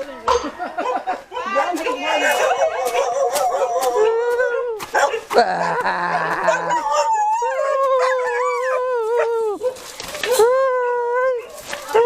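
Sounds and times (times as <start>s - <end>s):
dog howling: 2.0s - 12.0s.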